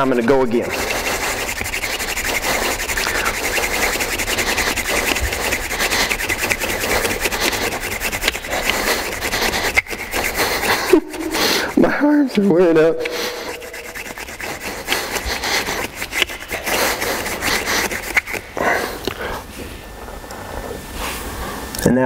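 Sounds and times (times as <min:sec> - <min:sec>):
wood rubbing on wood: 0:00.0 - 0:19.5.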